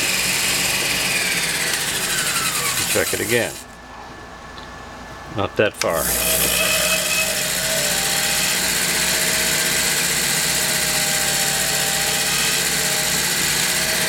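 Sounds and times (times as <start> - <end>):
cutting tool hiss: 0.0 - 3.7, 5.8 - 14.0
lathe motor hum: 0.0 - 3.8, 5.8 - 14.0.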